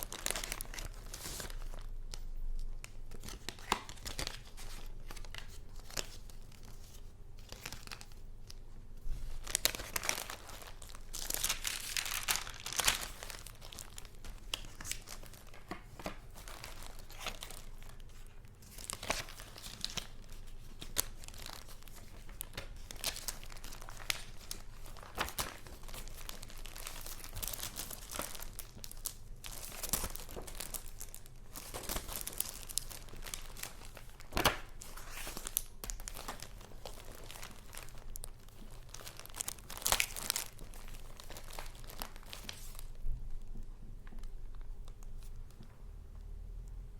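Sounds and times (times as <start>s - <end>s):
paper rustling and crinkling: 0.0s - 45.7s.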